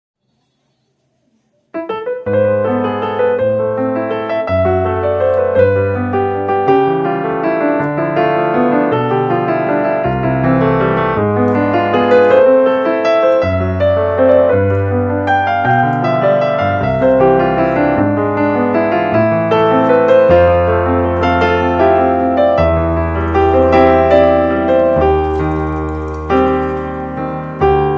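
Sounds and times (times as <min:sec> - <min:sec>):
piano music: 0:01.7 - 0:27.9.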